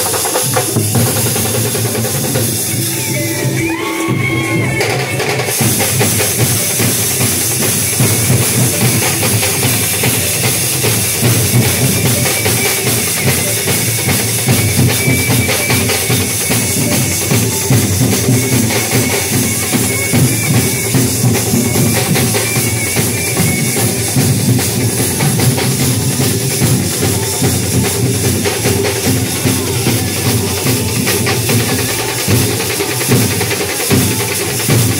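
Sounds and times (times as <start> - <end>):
cymbals: 0.0 - 34.9
percussion band drumming: 0.0 - 34.9.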